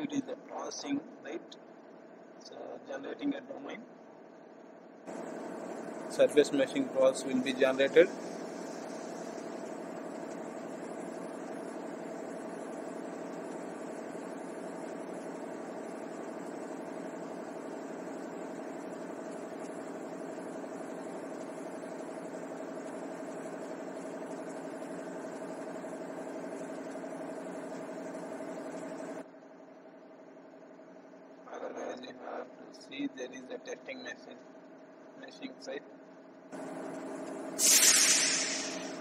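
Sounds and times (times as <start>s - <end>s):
mechanical hum: 0.0s - 39.0s.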